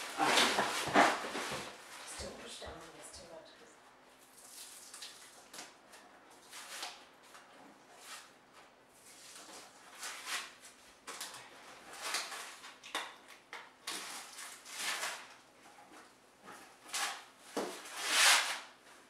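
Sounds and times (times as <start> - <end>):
plastic rustling and crinkling: 0.0 - 3.3, 4.2 - 19.0.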